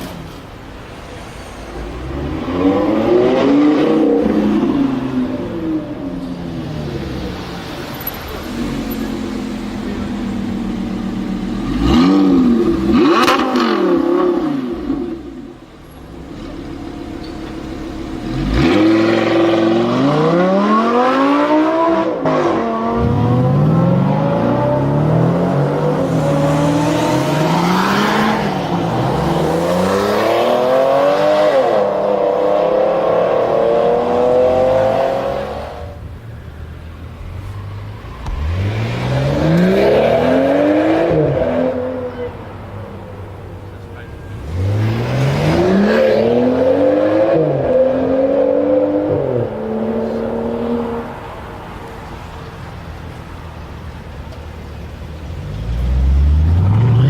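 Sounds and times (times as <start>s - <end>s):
sports car engine revving: 1.8s - 36.2s, 37.2s - 51.5s, 53.6s - 57.0s.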